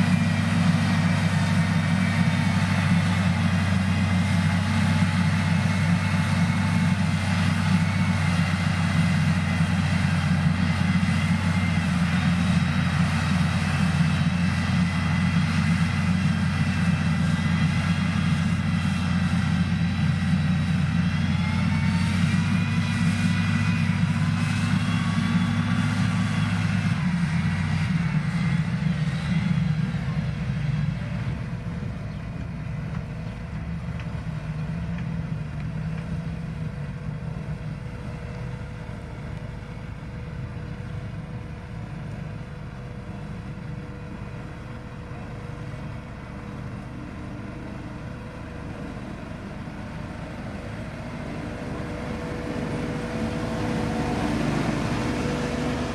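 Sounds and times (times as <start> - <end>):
diesel engine low drone: 0.0 - 55.9.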